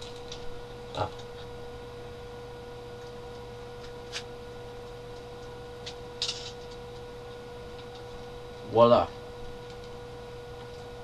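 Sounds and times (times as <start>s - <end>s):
electrical hum with high tone: 0.0s - 11.0s.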